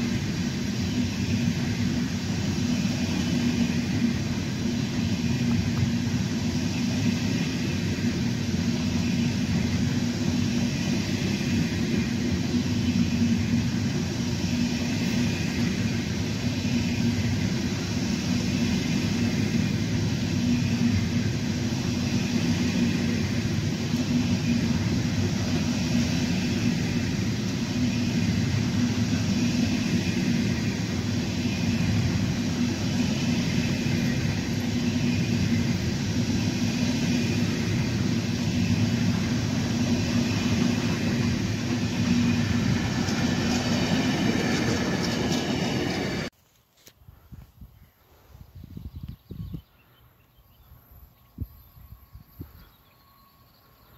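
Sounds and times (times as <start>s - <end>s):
freight train wheels rumbling: 0.0s - 46.4s.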